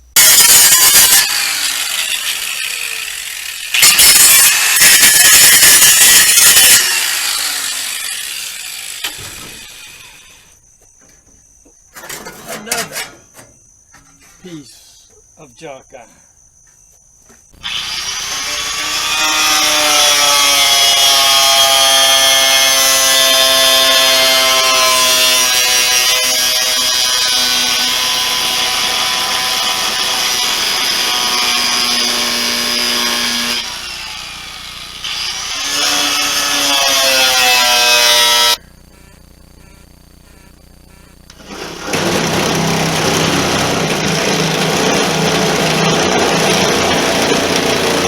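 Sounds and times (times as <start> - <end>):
power tool motor whine: 0.2 - 10.6, 17.6 - 48.0.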